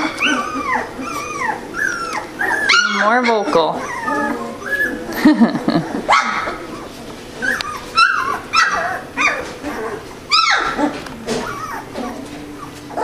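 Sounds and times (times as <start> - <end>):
puppies yipping and whimpering: 0.0 - 13.0.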